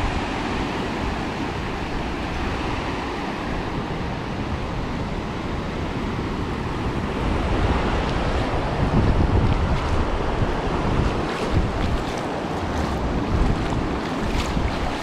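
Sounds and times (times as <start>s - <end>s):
sea surf rushing on beach: 0.0s - 15.0s
wind buffeting microphone: 0.0s - 15.0s.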